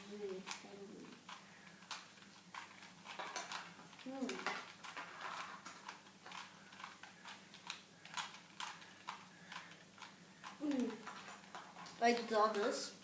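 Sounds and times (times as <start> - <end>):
puzzle cube layers clicking: 0.2 - 11.8.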